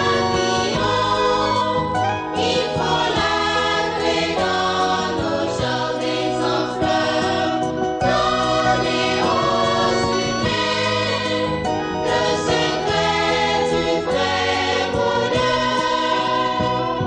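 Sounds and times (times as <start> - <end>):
choir singing gospel song: 0.0 - 17.0.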